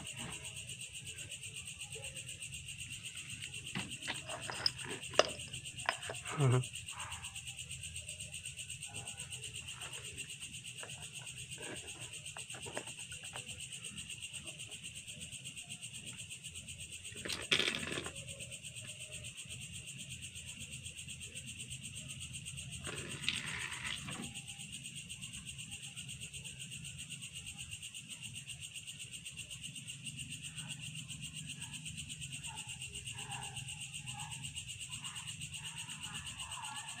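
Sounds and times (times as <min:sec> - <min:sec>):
night insects chirring: 0:00.0 - 0:37.0.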